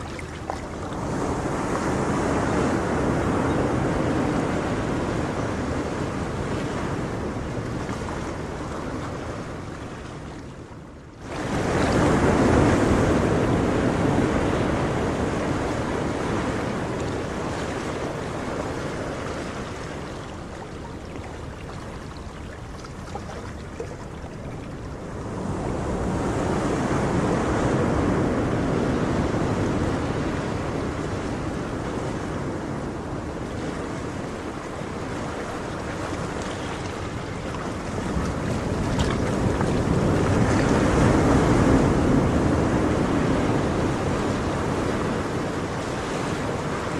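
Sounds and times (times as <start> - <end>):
ocean waves rushing: 0.0 - 46.9.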